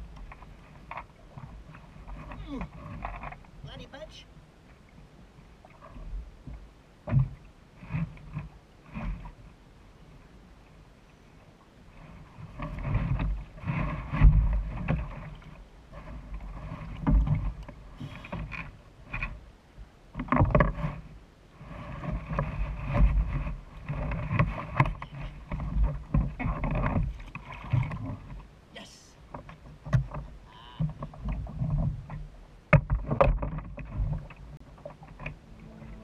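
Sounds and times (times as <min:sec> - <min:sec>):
water sloshing against kayak hull: 0:00.0 - 0:36.0.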